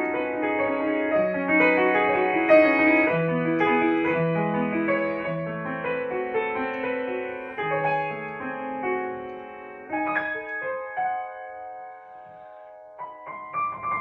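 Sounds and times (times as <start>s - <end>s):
upright piano melody: 0.0s - 14.0s.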